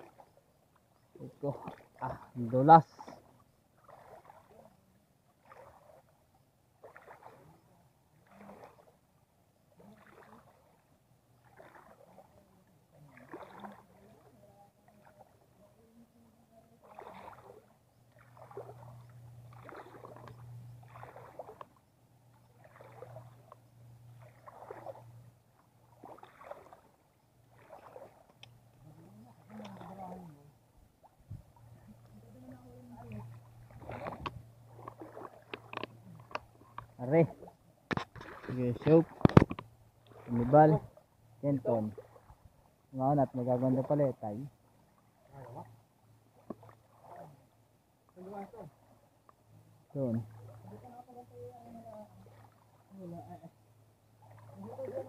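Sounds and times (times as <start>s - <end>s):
water splashes: 0.0s - 55.0s.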